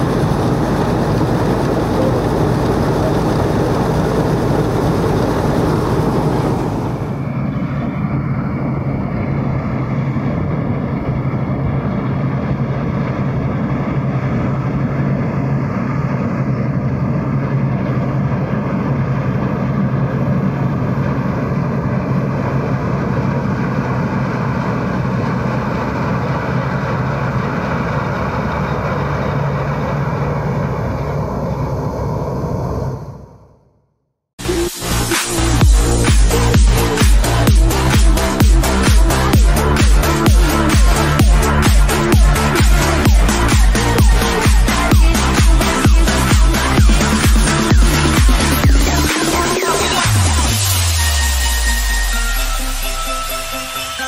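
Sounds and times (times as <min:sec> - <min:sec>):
combine harvester running: 0:00.0 - 0:33.4, 0:34.4 - 0:54.0.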